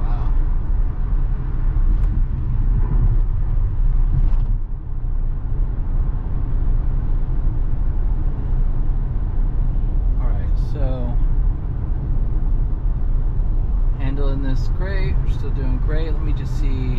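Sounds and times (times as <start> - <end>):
tyre and road noise in car: 0.0 - 16.9.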